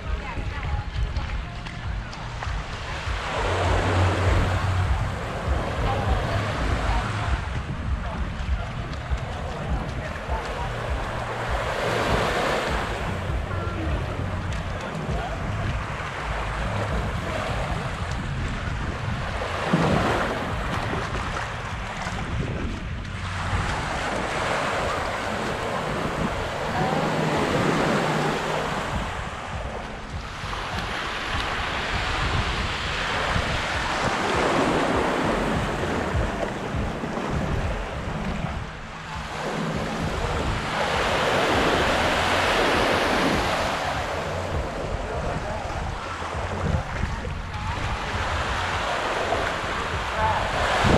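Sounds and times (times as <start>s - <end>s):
waves washing onto beach: 0.0s - 50.9s
wind rumbling on microphone: 0.0s - 50.9s.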